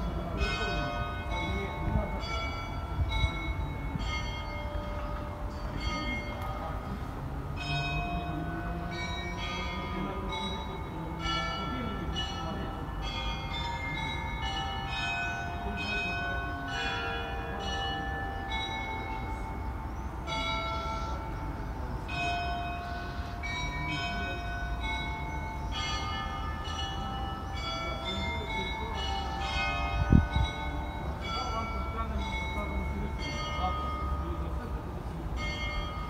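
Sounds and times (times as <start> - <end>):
church bells pealing: 0.0 - 36.0.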